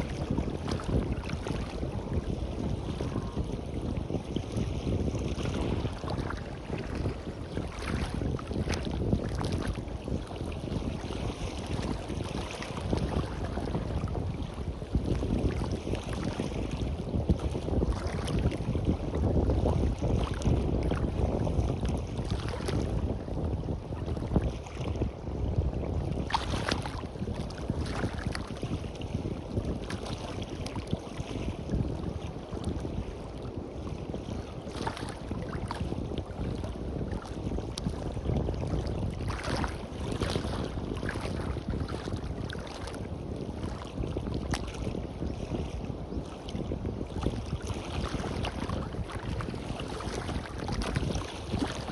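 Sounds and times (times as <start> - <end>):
wind rumbling on microphone: 0.0 - 51.9.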